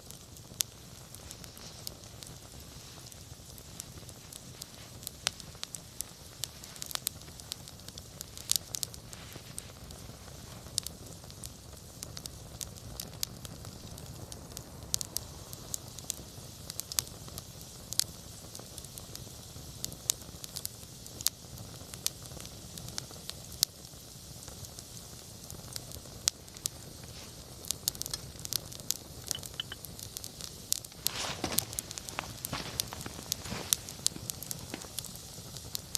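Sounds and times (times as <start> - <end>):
campfire crackling: 0.0 - 35.9.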